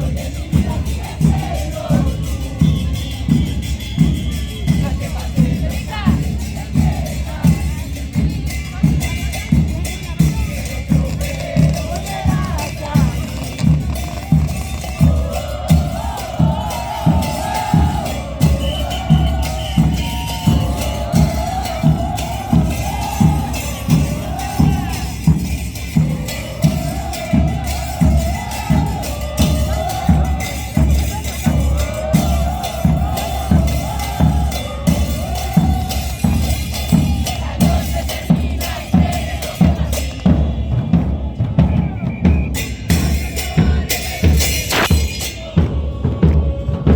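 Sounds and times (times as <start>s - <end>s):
bass drum beating: 0.0s - 42.0s
crowd singing in unison: 0.0s - 46.9s.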